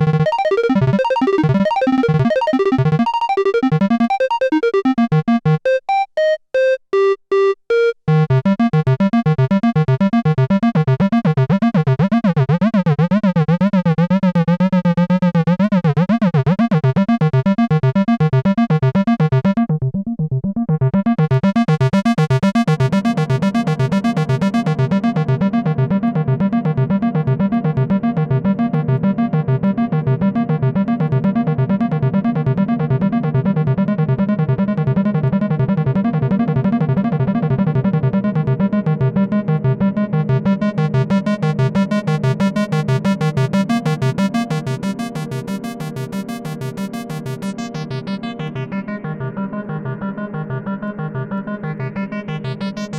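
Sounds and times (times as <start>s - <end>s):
synthesizer arpeggio: 0.0s - 13.8s, 14.8s - 52.9s.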